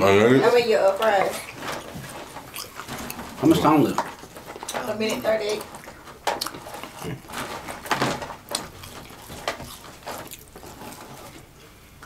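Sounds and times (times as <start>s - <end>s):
people chewing french fries: 0.0s - 12.0s.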